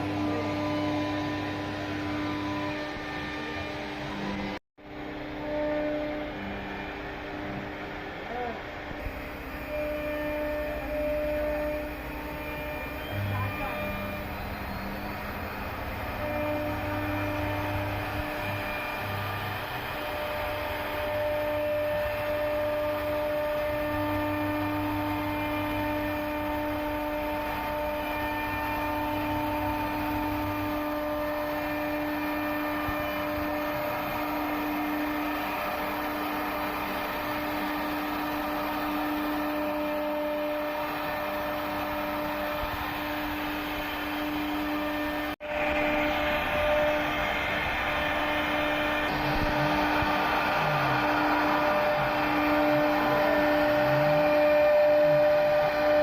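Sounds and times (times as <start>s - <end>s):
router spindle whining: 0.0s - 56.0s
hiss of wood cutting: 8.2s - 56.0s.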